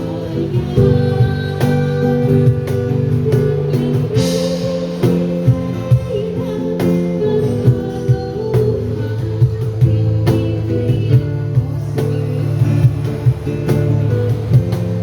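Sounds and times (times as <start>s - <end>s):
live band playing pop: 0.0s - 15.0s.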